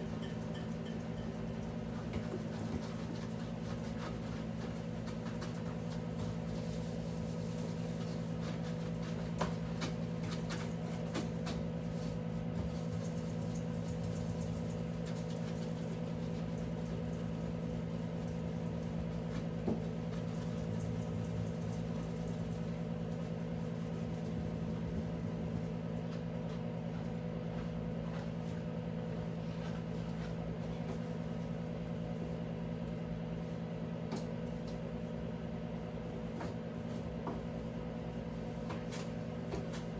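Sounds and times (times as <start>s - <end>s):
steady motor hum: 0.0s - 39.9s.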